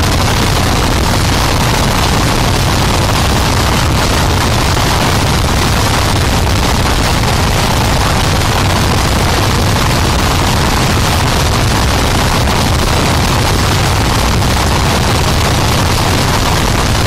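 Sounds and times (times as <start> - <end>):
wall of distorted static: 0.0 - 17.0.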